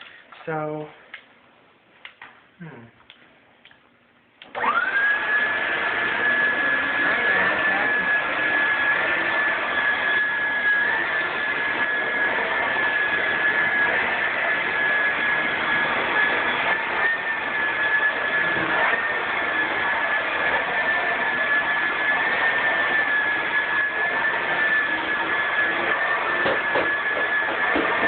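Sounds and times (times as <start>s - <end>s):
vacuum cleaner running: 4.4s - 28.0s.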